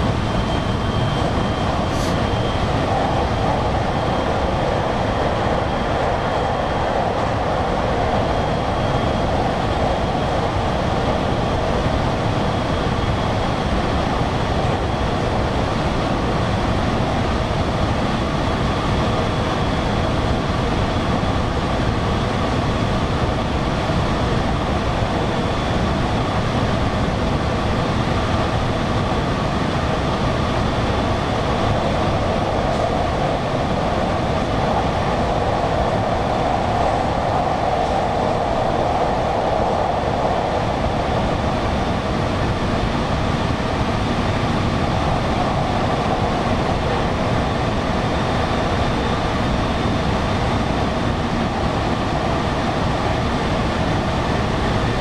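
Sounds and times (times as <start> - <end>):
wheels rumbling on rail: 0.0 - 55.0.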